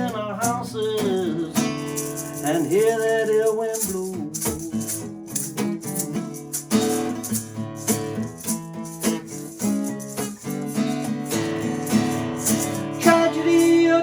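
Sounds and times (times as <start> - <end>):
acoustic guitar strumming chords: 0.0 - 14.0
shaker rhythm: 0.0 - 14.0.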